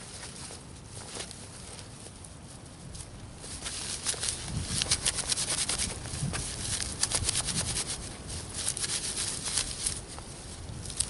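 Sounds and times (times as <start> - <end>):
dry bark crackling rustle: 0.0 - 11.0.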